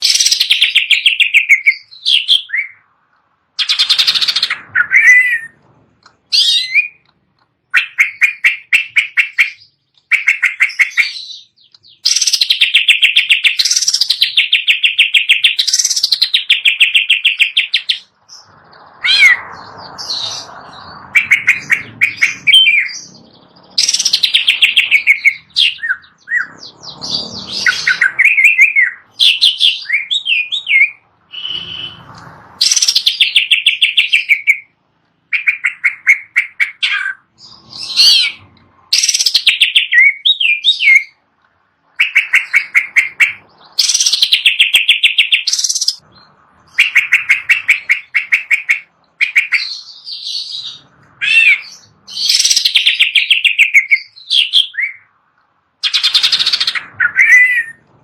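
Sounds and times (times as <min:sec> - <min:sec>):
bird singing trills and whistles: 0:00.0 - 0:02.9, 0:03.6 - 0:41.2, 0:42.0 - 0:55.1, 0:55.8 - 0:57.9.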